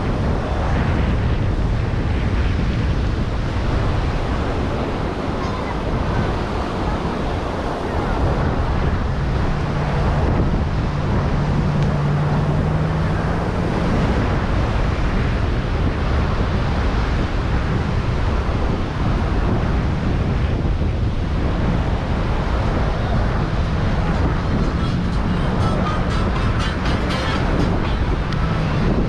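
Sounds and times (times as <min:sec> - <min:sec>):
ocean surf: 0:00.0 - 0:29.0
wind buffeting microphone: 0:00.0 - 0:29.0.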